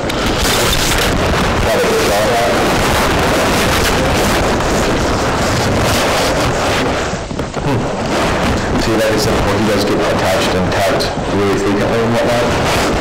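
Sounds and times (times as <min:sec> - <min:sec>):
cloth rubbing on microphone: 0:00.2 - 0:13.0.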